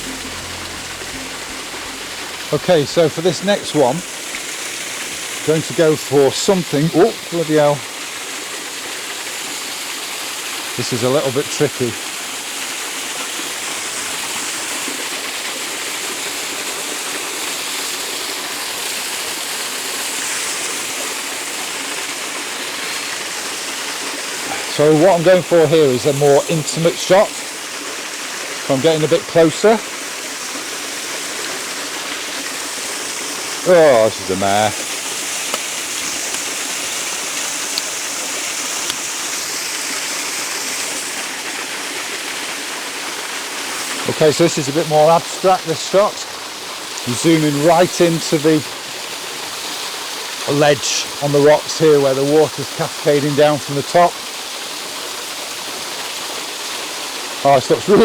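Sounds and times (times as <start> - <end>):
small waterfall splashing onto rocks: 3.4 - 58.0.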